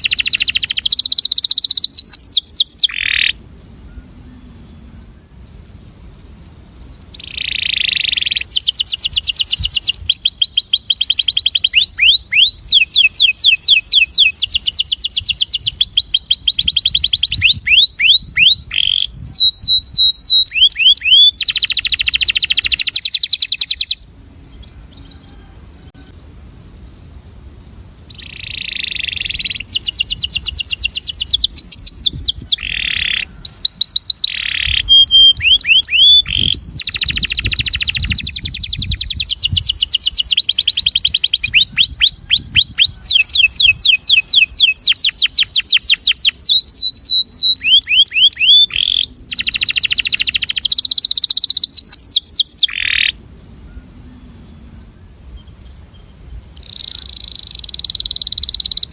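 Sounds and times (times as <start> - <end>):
canary singing rapid trills: 0.0 - 3.4, 5.4 - 25.4, 28.1 - 53.4, 56.5 - 58.9.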